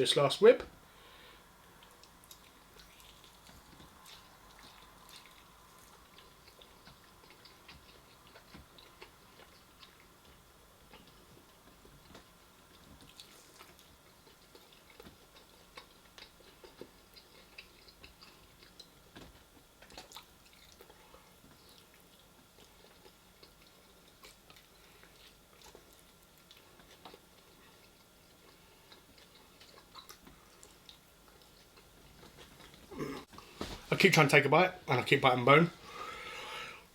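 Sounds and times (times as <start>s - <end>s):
person chewing food: 1.0s - 33.8s.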